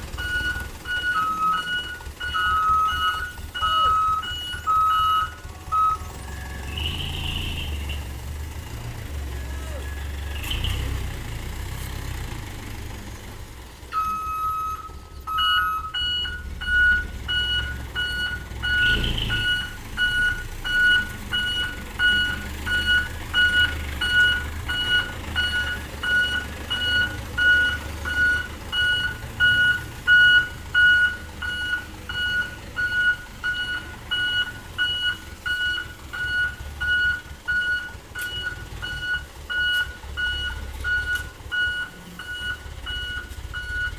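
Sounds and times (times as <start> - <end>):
truck reversing alarm beeping: 0.0 - 11.1, 13.8 - 43.9
diesel engine rumble: 0.0 - 43.9.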